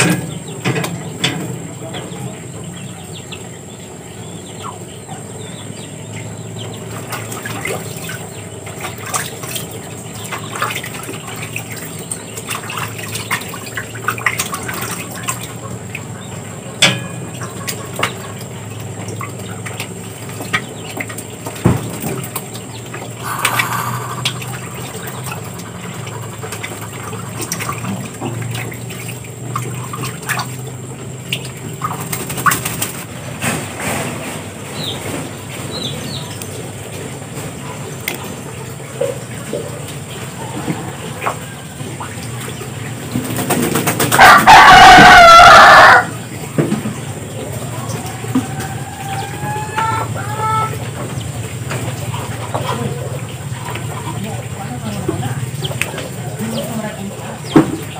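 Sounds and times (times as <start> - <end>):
ducks splashing in water: 0.0 - 57.9.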